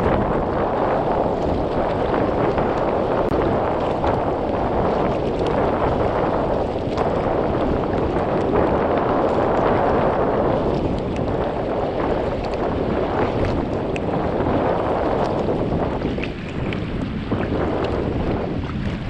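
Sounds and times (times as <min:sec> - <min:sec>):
water swishing under kayak: 0:00.0 - 0:19.0
wind buffeting microphone: 0:00.0 - 0:19.0.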